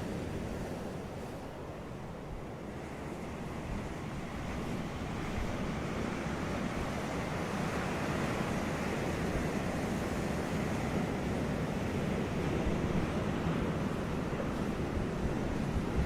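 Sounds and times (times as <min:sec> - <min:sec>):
ocean waves washing onto beach: 0:00.0 - 0:16.0
wind: 0:00.0 - 0:16.0.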